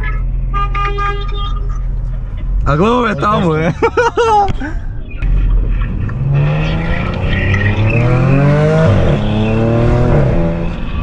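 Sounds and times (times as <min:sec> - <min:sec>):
car engine accelerating: 0:01.3 - 0:11.0.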